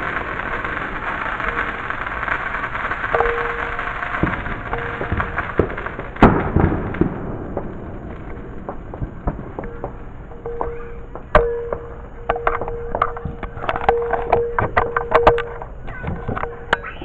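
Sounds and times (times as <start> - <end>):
firework pops and crackles: 0.0 - 17.0
fireworks bangs: 0.0 - 17.0.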